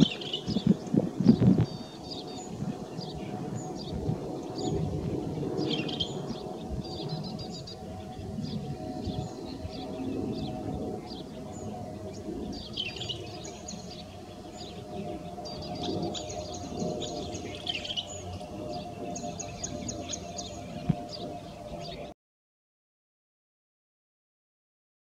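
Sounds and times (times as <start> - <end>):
birds chirping: 0.0 - 22.1
steady low hum: 0.0 - 22.1.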